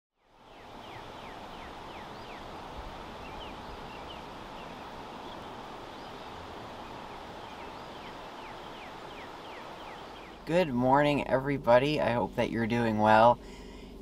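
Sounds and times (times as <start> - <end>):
outdoor background hiss: 0.2 - 14.0.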